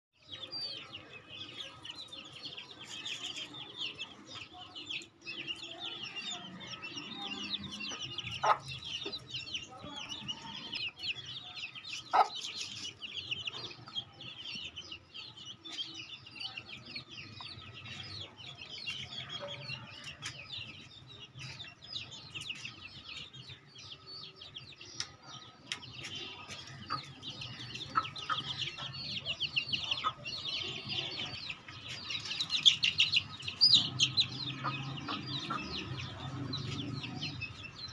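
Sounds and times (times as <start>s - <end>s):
chicks peeping: 0.2s - 37.9s.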